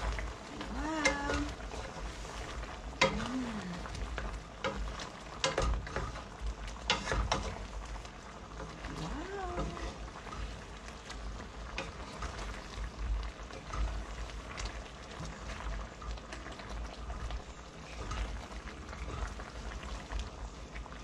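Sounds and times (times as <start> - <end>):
curry bubbling and popping: 0.0 - 21.0
spatula stirring and scraping pan: 0.0 - 21.0.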